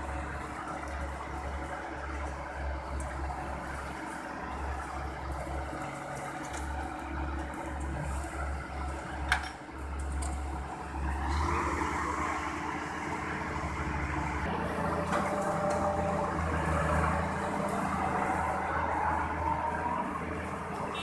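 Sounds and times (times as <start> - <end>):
combine harvesters running: 0.0 - 21.0.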